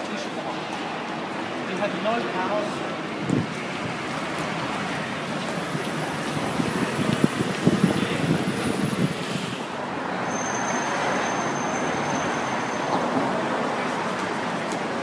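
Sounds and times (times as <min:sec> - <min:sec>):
traffic noise hiss: 0:00.0 - 0:15.0.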